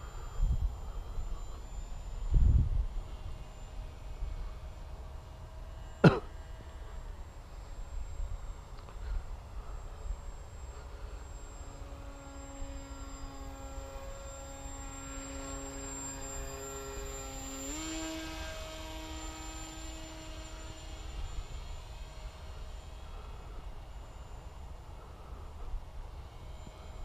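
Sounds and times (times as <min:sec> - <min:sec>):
model plane propeller droning: 0:00.0 - 0:27.0.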